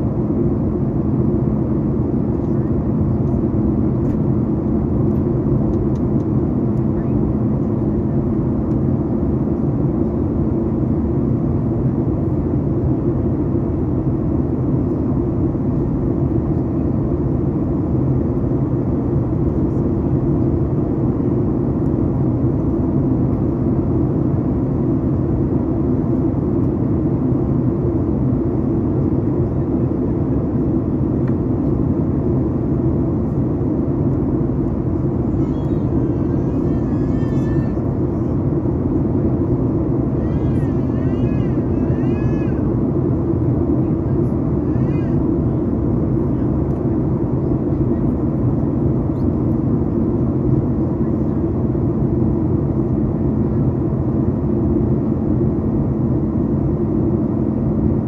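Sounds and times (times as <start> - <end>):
jet engine hum: 0.0 - 58.0.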